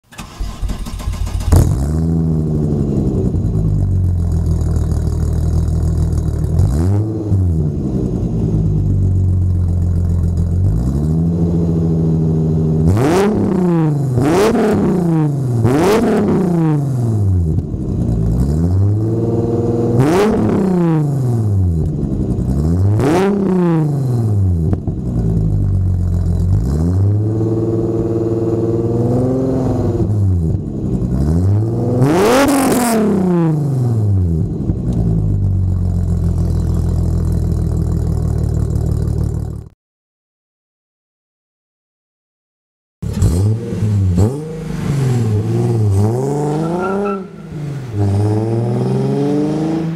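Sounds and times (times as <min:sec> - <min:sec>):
car engine revving and idling: 0:00.2 - 0:39.7, 0:43.0 - 0:49.9.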